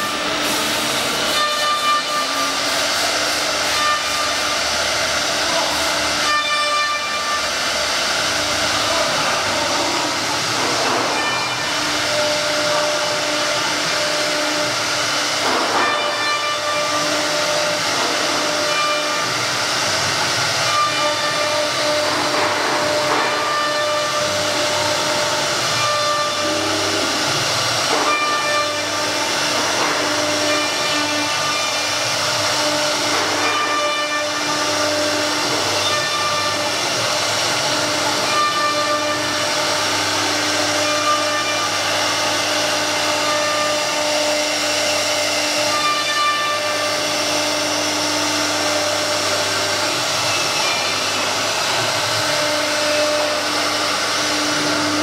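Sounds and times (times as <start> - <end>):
hiss of cutting: 0.0 - 55.0
router spindle whining: 0.0 - 55.0.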